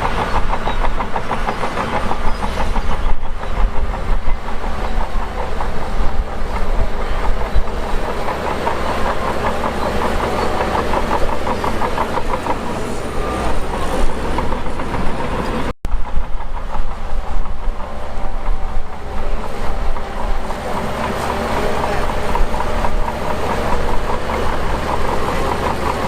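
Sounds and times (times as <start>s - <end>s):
bulldozer diesel engine running: 0.0s - 26.0s
metallic clatter of tracks: 0.0s - 26.0s.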